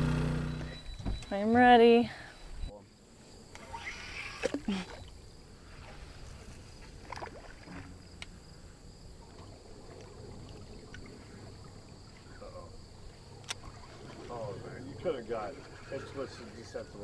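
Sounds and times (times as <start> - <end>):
boat engine low rumble: 0.0 - 2.8, 4.4 - 17.0
water along boat hull: 0.0 - 17.0.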